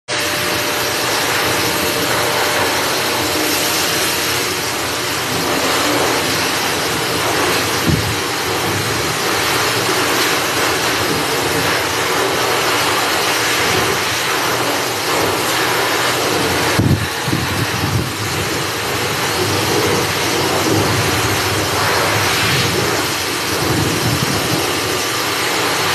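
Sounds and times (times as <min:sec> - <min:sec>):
dog grooming dryer blowing air: 0:00.1 - 0:25.9.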